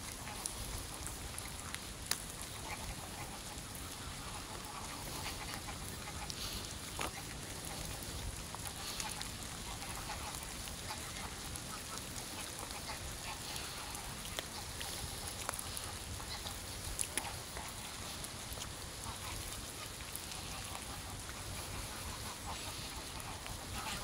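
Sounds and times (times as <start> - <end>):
ducks and geese calling: 0.0 - 24.0
rain hissing: 0.0 - 24.0
raindrops ticking close by: 0.0 - 24.0.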